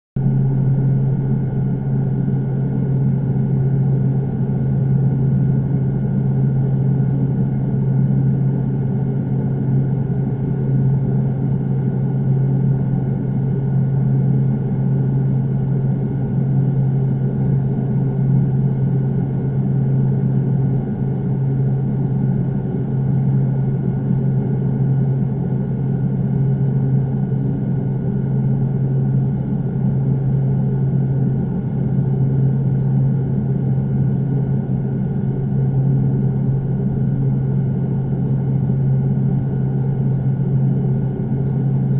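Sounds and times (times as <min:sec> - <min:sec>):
steady low hum: 0:00.2 - 0:41.9.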